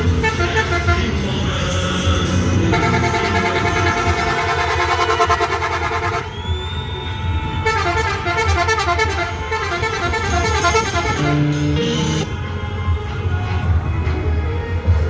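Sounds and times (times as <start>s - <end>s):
musical car horn melody: 0.0s - 14.0s.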